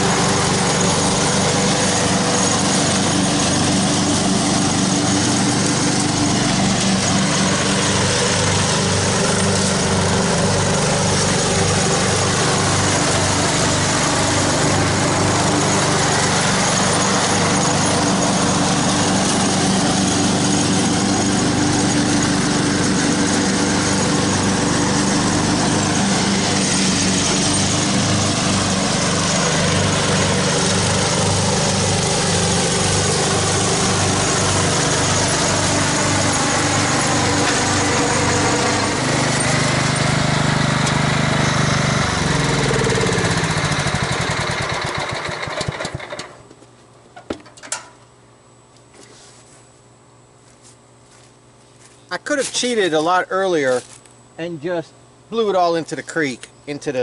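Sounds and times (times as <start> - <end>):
mower mulching dry leaves: 0.0 - 46.5, 48.9 - 49.7, 50.4 - 57.0
riding lawn mower engine running: 0.0 - 46.6, 51.8 - 57.0.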